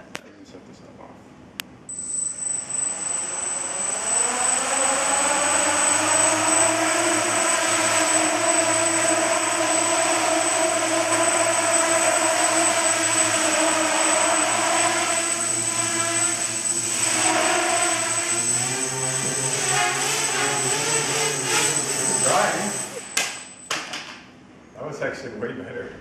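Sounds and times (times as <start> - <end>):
high-pitched tone: 1.9 - 23.7
drone motors buzzing whine: 1.9 - 24.0.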